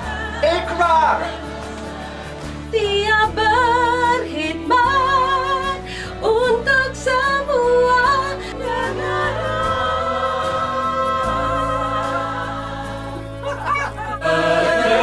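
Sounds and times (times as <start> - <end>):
sustained backing chords: 0.0 - 15.0
woman singing slow song: 2.8 - 15.0.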